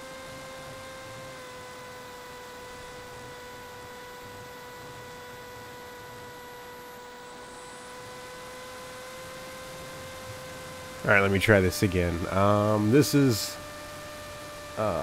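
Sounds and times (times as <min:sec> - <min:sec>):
steady pitched hum: 0:00.0 - 0:15.0.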